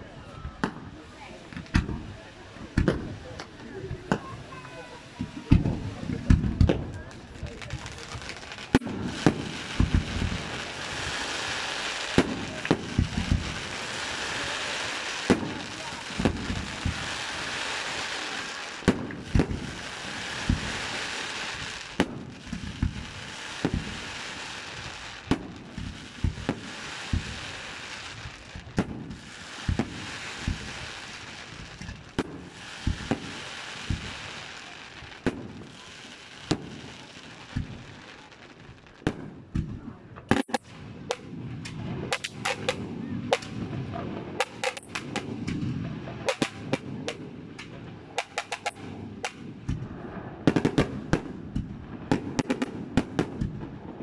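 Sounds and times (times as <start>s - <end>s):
crackling hiss: 0.0s - 54.0s
fireworks bursting with sharp bangs: 0.0s - 54.0s.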